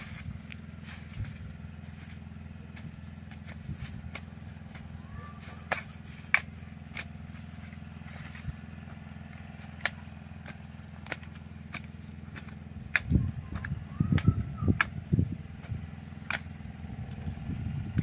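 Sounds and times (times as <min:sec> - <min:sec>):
garden tool striking soil: 0:00.0 - 0:17.4
steady low hum: 0:00.0 - 0:18.0.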